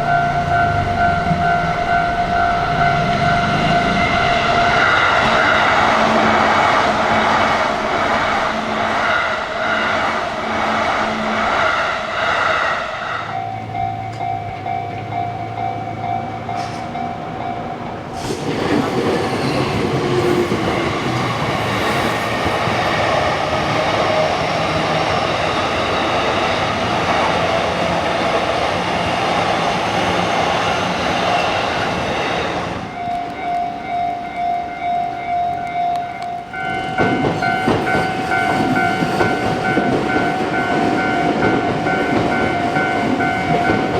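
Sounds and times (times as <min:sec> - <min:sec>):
railroad crossing bell ringing: 0:00.0 - 0:43.9
train passing on tracks: 0:00.0 - 0:43.9.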